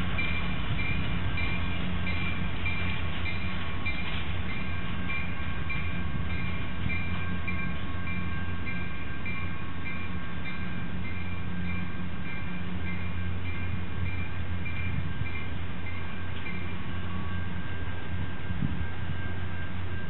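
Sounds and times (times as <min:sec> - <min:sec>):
diesel locomotive drone: 0:00.0 - 0:20.0.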